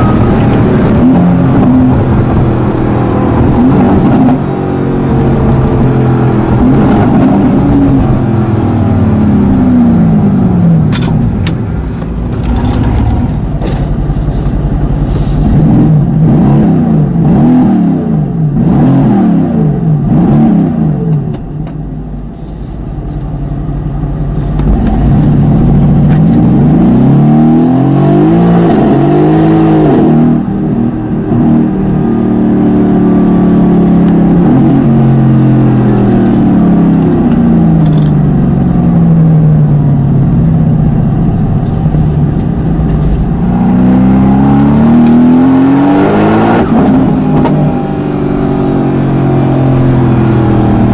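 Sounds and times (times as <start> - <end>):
car engine revving: 0.0 - 21.6, 22.4 - 50.9.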